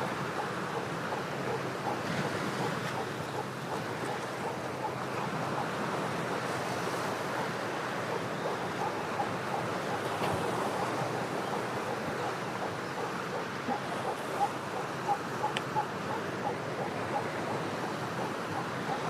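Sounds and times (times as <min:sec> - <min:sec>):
ocean surf against rocks: 0:00.0 - 0:19.0.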